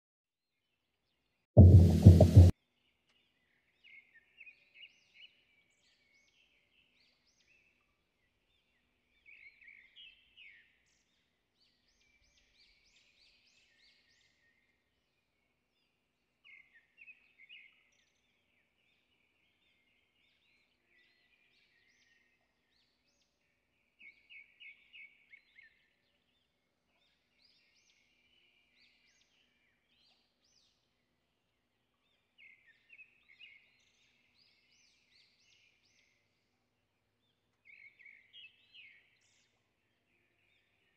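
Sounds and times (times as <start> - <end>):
faint bird song: 0.5 - 40.9.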